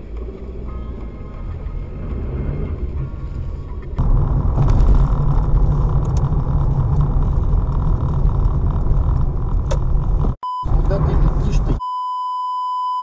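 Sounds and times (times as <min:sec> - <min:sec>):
car engine and road noise: 0:00.0 - 0:11.8.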